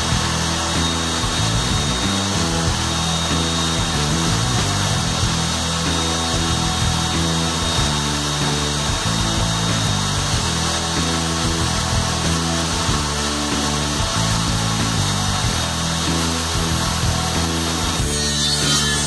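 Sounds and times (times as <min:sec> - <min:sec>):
background music: 0:00.0 - 0:19.0
table saw running: 0:00.0 - 0:19.0.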